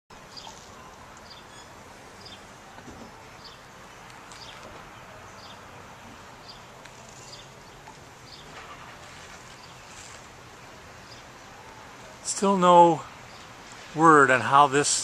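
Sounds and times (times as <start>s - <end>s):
outdoor background hiss: 0.1s - 15.0s.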